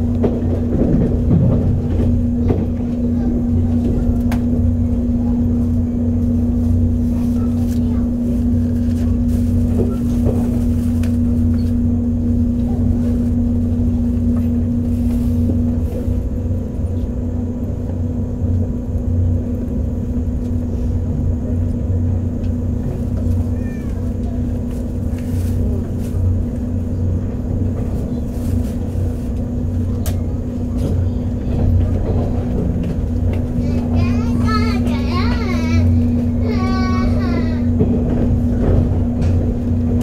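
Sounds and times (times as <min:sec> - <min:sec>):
train wheels rumbling on track: 0:00.0 - 0:40.0
steady electric hum: 0:01.6 - 0:40.0.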